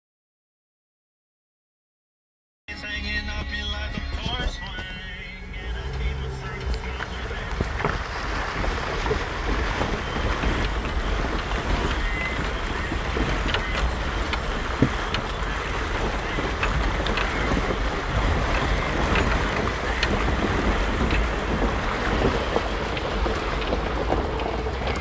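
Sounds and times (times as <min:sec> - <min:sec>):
low rumble: 0:02.7 - 0:25.0
water rushing and splashing: 0:03.2 - 0:25.0.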